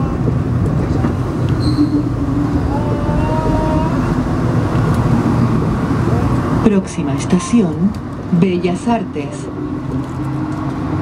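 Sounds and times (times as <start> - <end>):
metro train rumble: 0.0 - 11.0.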